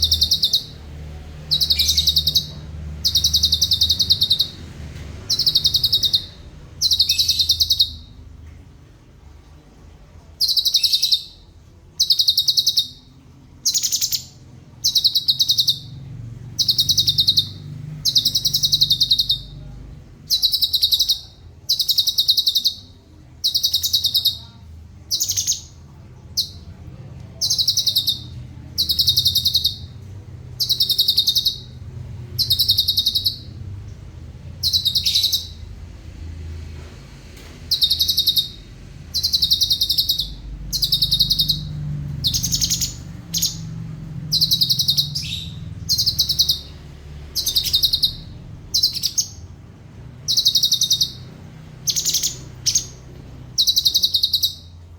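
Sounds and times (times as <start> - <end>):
songbird trilling: 0.0 - 0.8, 1.4 - 4.6, 5.2 - 8.2, 10.4 - 11.4, 12.0 - 16.0, 16.6 - 19.6, 20.3 - 26.7, 27.4 - 33.6, 34.6 - 35.7, 37.7 - 49.4, 50.2 - 54.8
faint low hum: 0.0 - 54.9.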